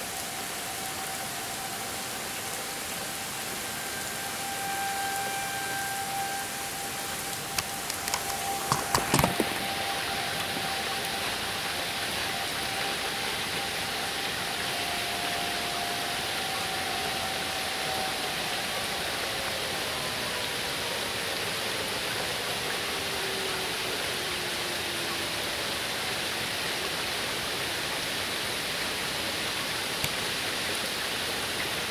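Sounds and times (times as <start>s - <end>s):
distant tornado sirens: 0.0s - 31.9s
steady rain hiss: 0.0s - 31.9s.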